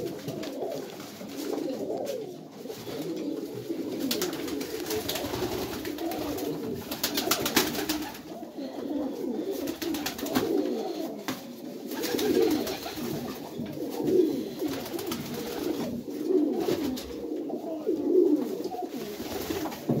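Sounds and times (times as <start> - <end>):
wings flapping: 0.0 - 8.4, 9.3 - 17.2, 18.4 - 20.0
pigeons cooing: 0.0 - 20.0.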